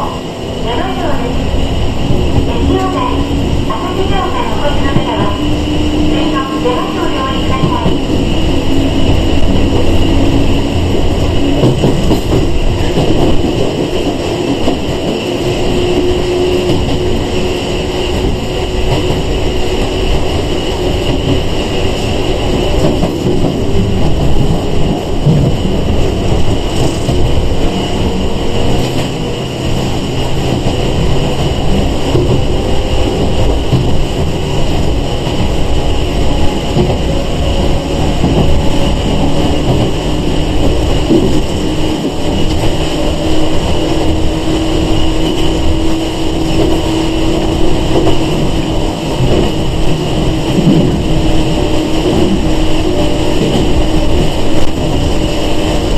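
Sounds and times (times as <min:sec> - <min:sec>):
train interior running rumble: 0:00.0 - 0:55.9.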